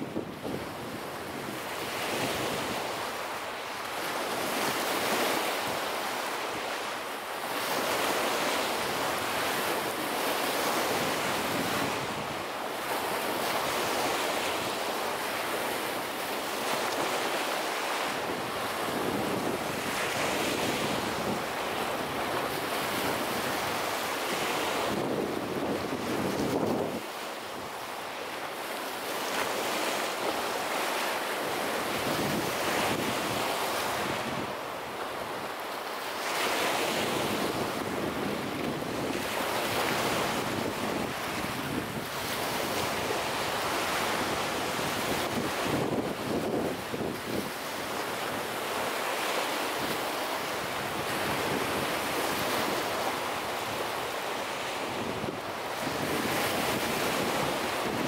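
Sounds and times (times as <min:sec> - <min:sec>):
waves washing up a shore: 0:00.0 - 0:58.0.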